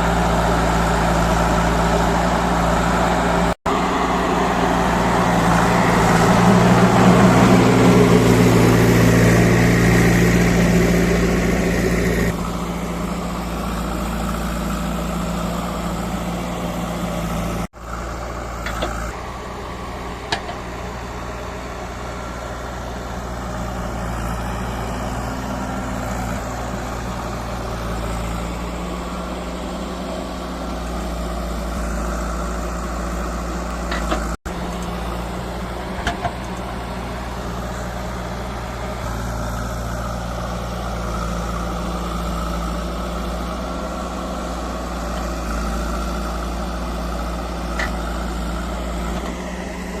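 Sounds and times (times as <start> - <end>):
diesel engine working: 0.0 - 50.0.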